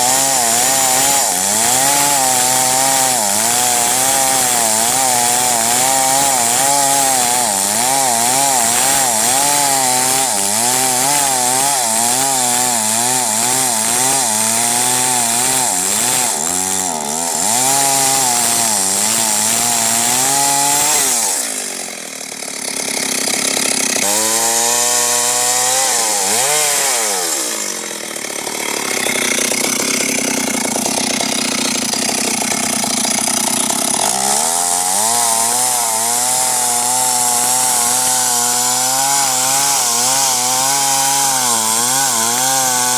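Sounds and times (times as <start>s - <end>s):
chainsaw cutting tree: 0.0s - 42.9s.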